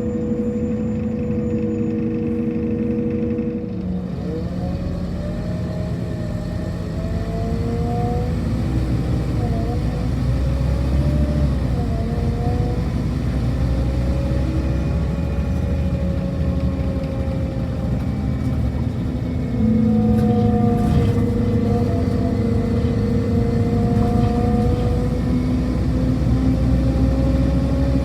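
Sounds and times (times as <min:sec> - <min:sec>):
bus engine whining and rumbling: 0:00.0 - 0:28.0.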